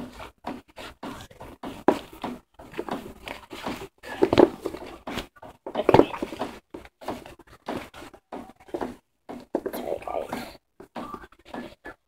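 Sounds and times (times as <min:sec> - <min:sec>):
cloth rustling: 0:00.0 - 0:11.8
handling bumps: 0:00.0 - 0:12.0.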